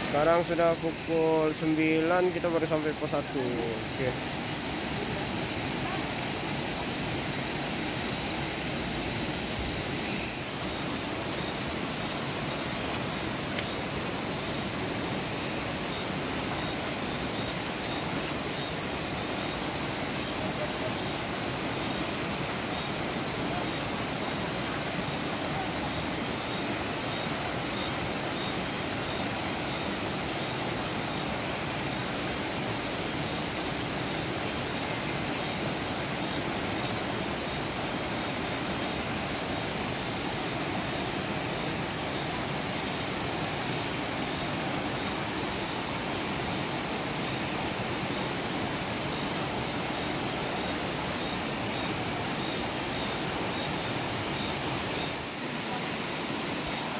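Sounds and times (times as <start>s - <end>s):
fast-flowing river rushing: 0.0s - 56.9s.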